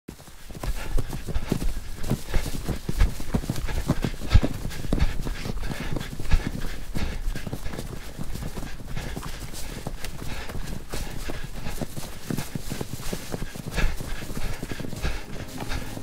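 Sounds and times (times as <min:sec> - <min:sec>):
clopping footfalls on paved road: 0:00.1 - 0:16.0.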